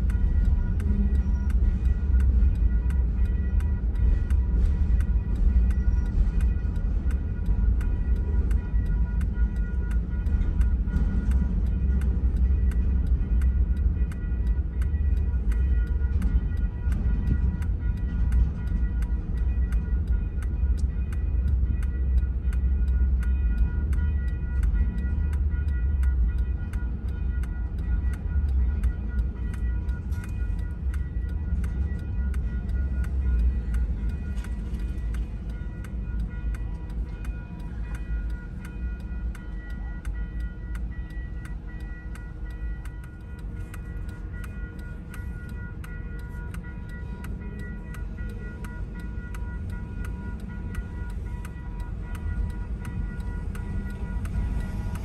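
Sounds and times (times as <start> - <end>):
crossing bell ringing: 0.0 - 55.0
freight train rumbling past: 0.0 - 55.0.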